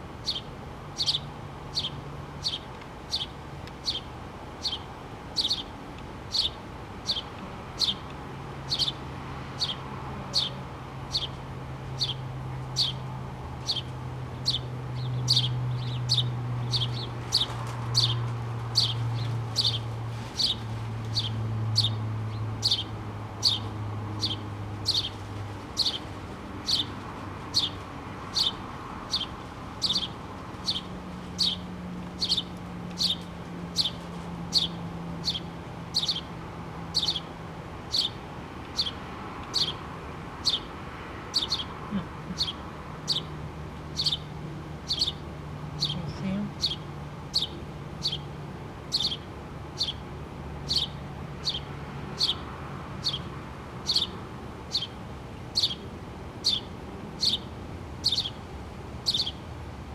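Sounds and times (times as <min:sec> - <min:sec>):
sparrow chirping: 0:00.2 - 0:59.5.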